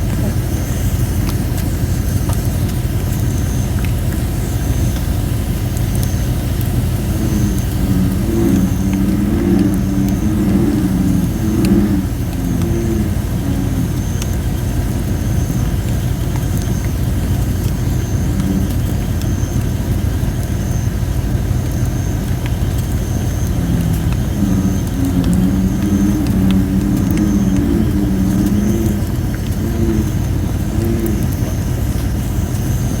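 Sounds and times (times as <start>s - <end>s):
bullfrogs croaking: 0.0s - 33.0s
campfire crackling: 0.0s - 33.0s.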